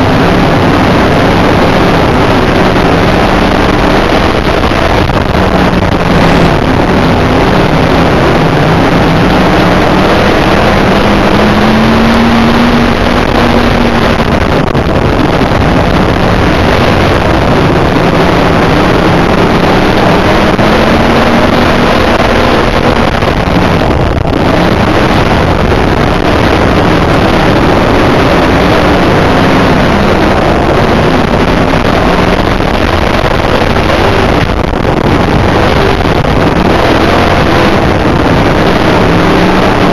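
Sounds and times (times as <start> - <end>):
race car engine at speed: 0.0 - 39.9
wind noise on microphone: 0.0 - 39.9.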